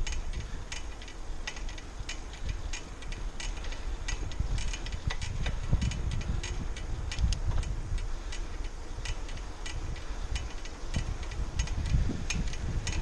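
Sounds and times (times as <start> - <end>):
bicycle ticks and clicks: 0.0 - 13.0
wind rumbling on microphone: 0.0 - 13.0.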